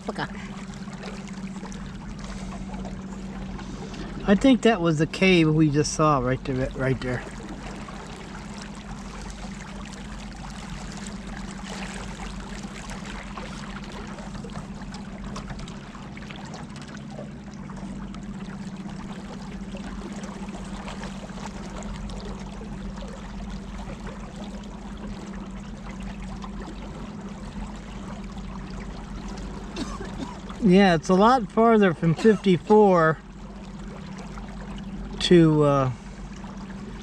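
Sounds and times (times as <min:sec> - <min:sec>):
motorboat engine hum: 0:00.0 - 0:37.0
water rushing along hull: 0:00.0 - 0:37.0.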